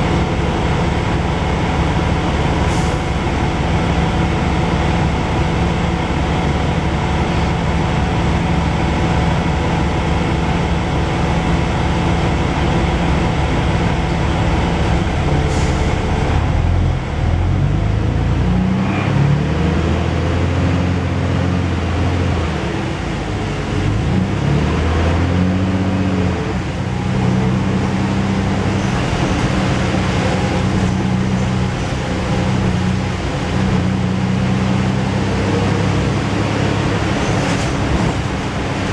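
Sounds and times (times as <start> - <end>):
bus diesel engine revving: 0.0 - 38.9.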